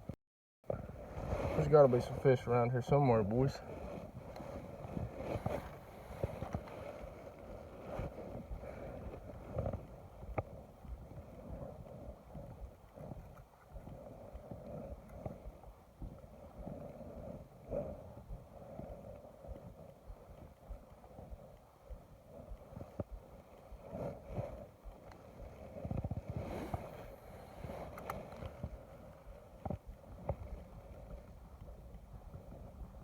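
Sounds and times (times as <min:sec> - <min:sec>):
wind: 0:00.0 - 0:33.0.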